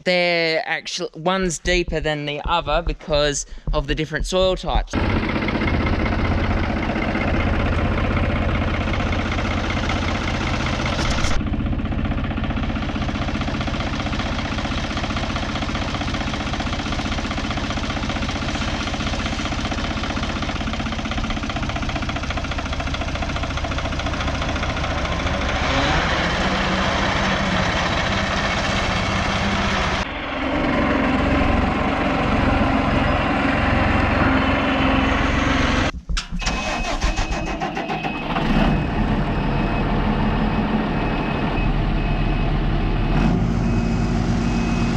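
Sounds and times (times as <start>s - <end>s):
engine running steadily: 4.9s - 44.9s.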